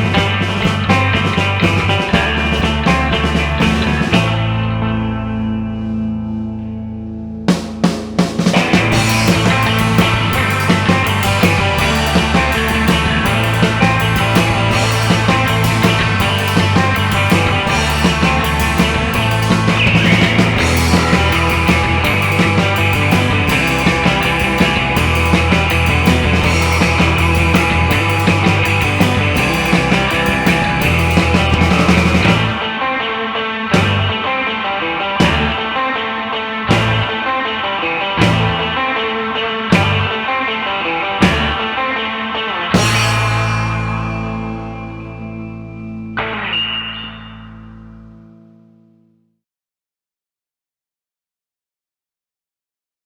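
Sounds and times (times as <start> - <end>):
instrumental rock band: 0.0 - 49.0.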